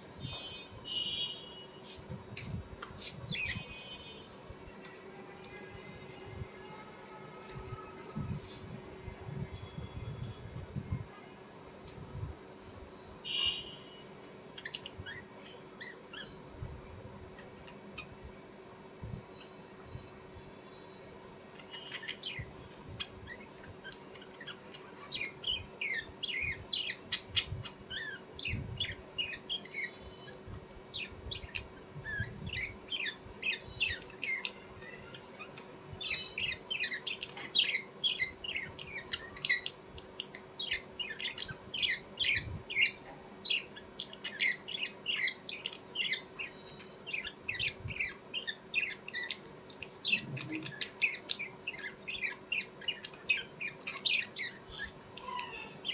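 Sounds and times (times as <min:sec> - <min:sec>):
birds chirping and squawking: 0:00.0 - 0:11.1, 0:13.3 - 0:16.5, 0:21.3 - 0:55.9
faint steady hum: 0:00.0 - 0:55.9.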